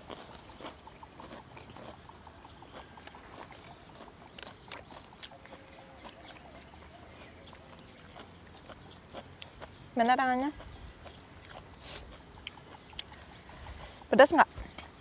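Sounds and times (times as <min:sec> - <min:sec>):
chewing crunchy crackers: 0:00.0 - 0:15.0.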